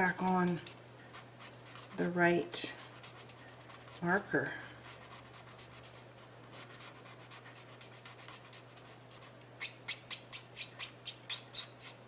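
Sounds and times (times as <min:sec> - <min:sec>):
marker strokes on cardstock: 0:00.0 - 0:04.2, 0:04.8 - 0:12.0.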